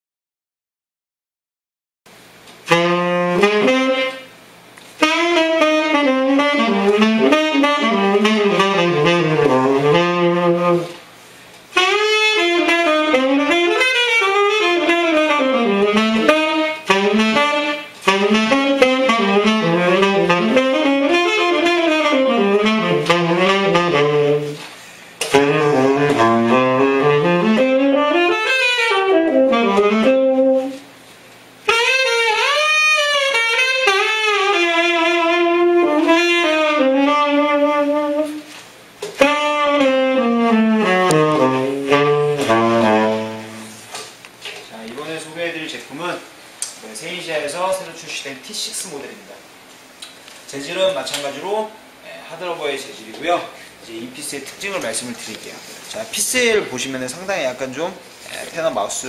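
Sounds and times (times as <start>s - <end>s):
tenor saxophone jazz phrases: 2.6s - 11.0s, 11.7s - 31.0s, 31.6s - 44.0s, 50.5s - 59.0s.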